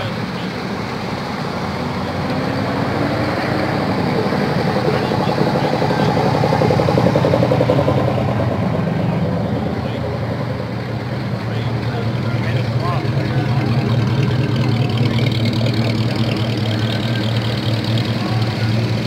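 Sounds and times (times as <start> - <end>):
car engines rolling past: 0.0 - 19.0.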